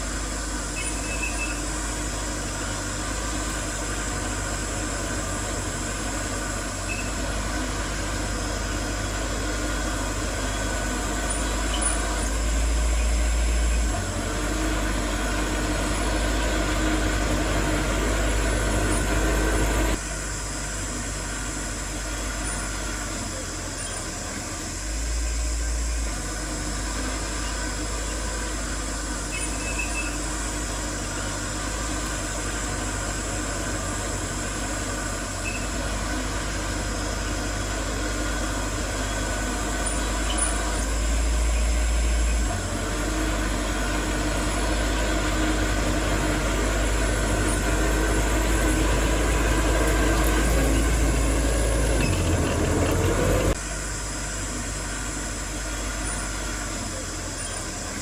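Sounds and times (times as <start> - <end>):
heavy diesel machinery rumbling: 0.0 - 58.0.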